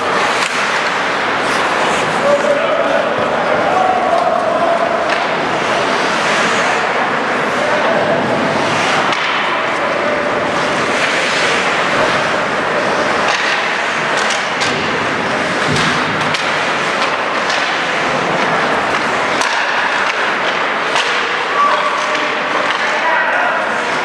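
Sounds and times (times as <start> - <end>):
hockey sticks and puck clacking: 0.0 - 24.0
skate blades scraping ice: 0.0 - 24.0.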